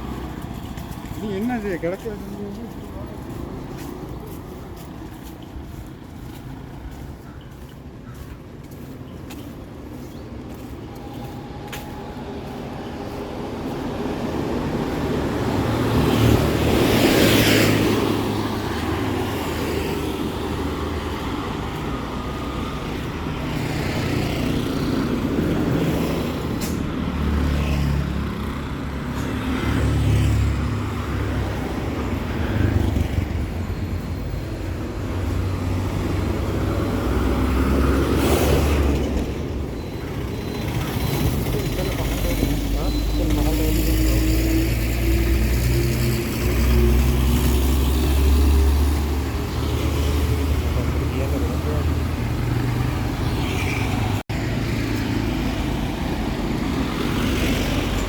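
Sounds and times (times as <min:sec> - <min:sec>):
traffic engine rumble: 0:00.0 - 0:58.0
vehicles passing close: 0:00.0 - 0:58.0.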